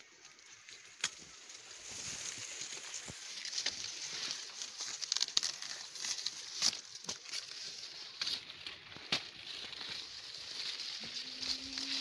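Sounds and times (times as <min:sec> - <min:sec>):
dry corn leaves rustling: 0:00.0 - 0:12.0.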